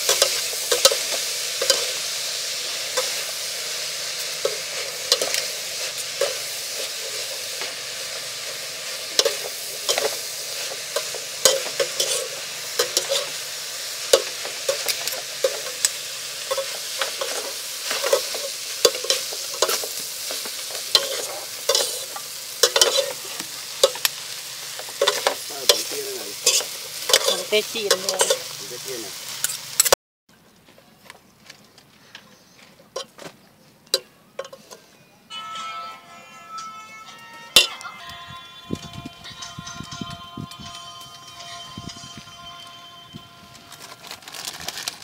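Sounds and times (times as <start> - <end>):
food sizzling in a pan: 0.0 - 30.0, 37.2 - 45.0.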